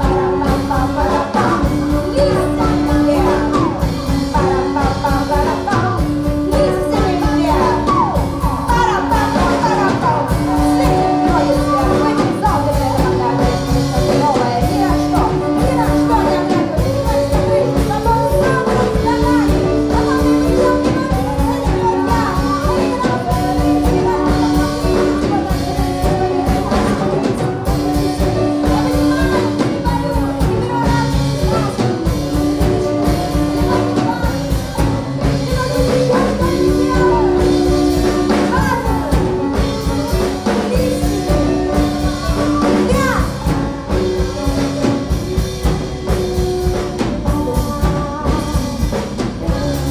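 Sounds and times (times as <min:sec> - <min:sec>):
drum kit beat: 0:00.0 - 0:49.9
live band playing: 0:00.0 - 0:49.9
women singing: 0:00.0 - 0:49.9.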